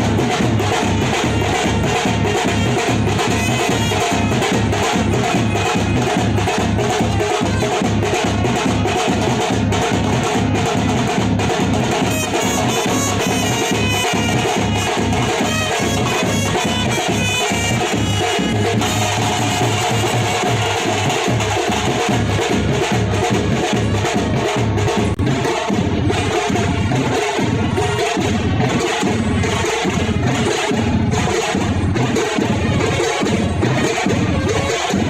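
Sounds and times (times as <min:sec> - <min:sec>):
music with percussive beat and brass: 0:00.0 - 0:35.0.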